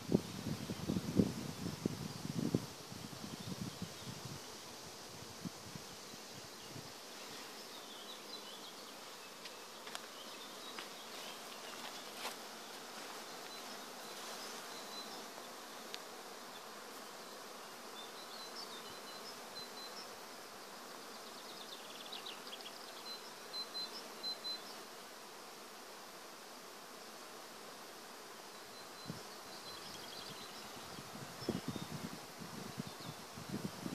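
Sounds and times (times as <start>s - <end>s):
bees humming: 0.0s - 33.9s.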